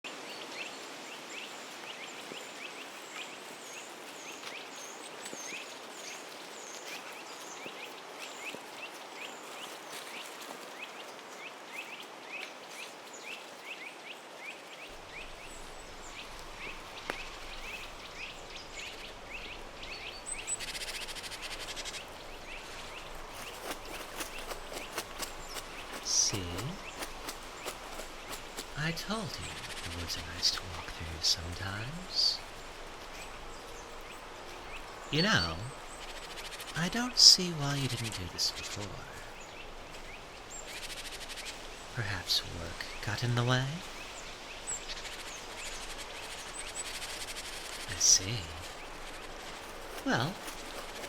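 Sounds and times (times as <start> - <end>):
birds chirping: 0.0 - 51.0
steady background hiss: 0.1 - 51.0.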